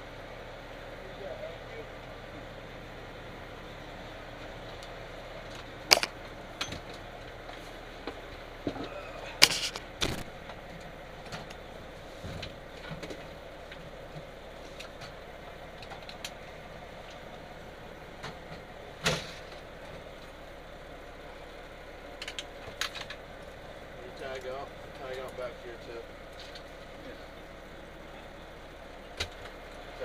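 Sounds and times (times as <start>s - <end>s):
fire engine idling: 0.0s - 30.0s.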